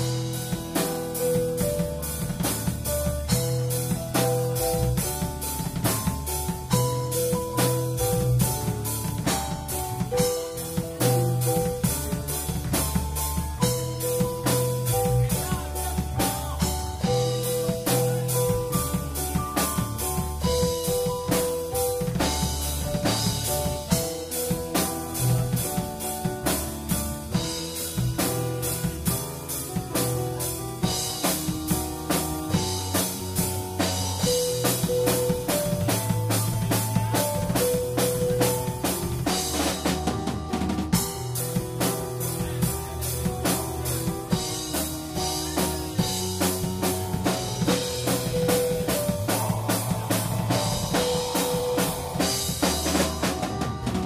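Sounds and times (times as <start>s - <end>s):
drum kit beat: 0.0s - 54.0s
guitar: 0.0s - 54.0s
held melodic notes: 0.0s - 54.0s.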